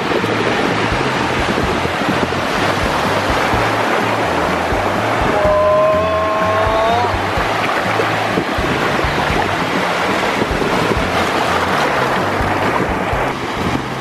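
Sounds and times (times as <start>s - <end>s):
sea surf washing: 0.0s - 14.0s
wind rumbling on microphone: 0.0s - 14.0s.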